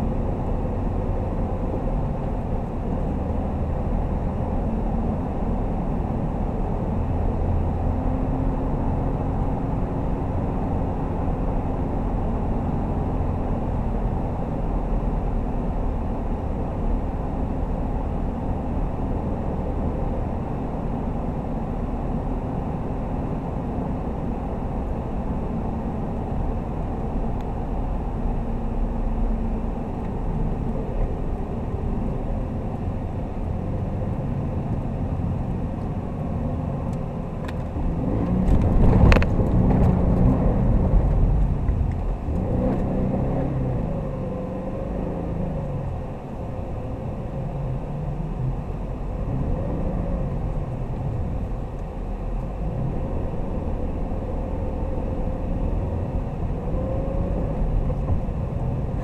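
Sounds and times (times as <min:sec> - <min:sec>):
car engine drone from inside cabin: 0:00.0 - 0:59.0.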